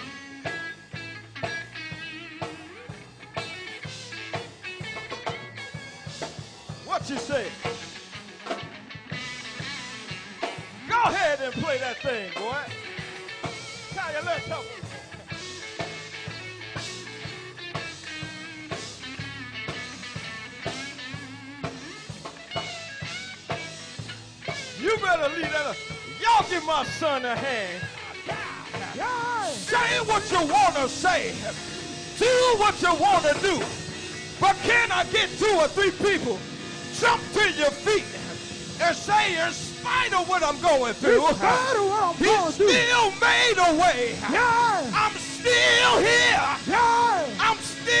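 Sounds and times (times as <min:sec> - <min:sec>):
bass and drums: 0:00.0 - 0:48.0
electric guitar solo: 0:00.0 - 0:48.0.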